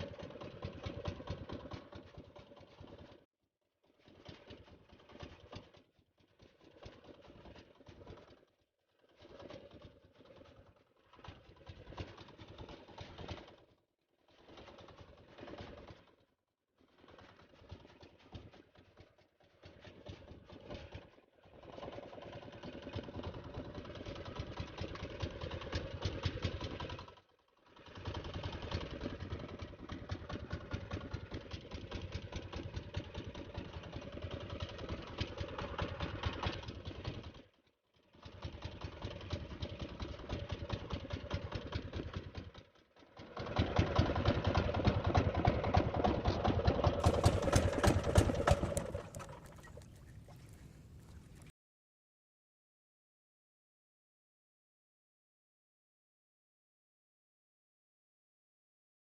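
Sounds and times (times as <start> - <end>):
small engine running: 0.0 - 51.5.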